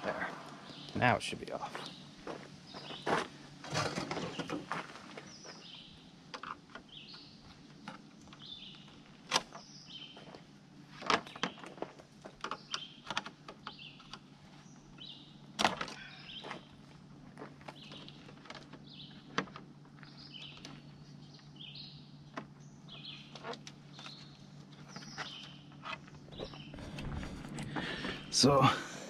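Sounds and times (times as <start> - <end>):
bird chirping: 0.0 - 3.2, 4.1 - 10.4, 12.4 - 16.8, 17.6 - 28.7.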